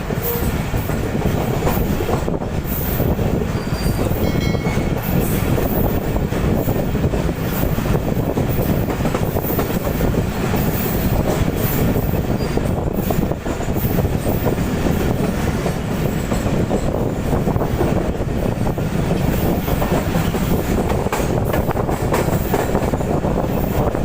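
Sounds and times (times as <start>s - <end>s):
train wheels rumbling and clattering: 0.0s - 24.0s.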